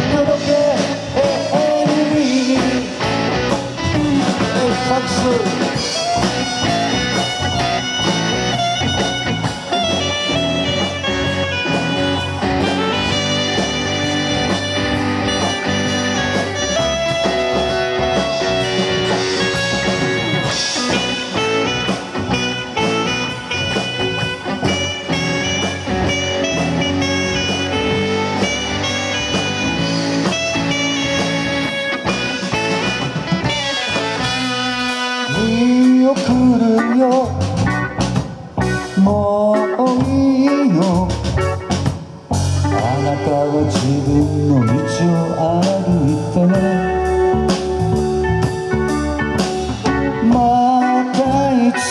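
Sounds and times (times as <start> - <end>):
live band playing: 0.0 - 51.9.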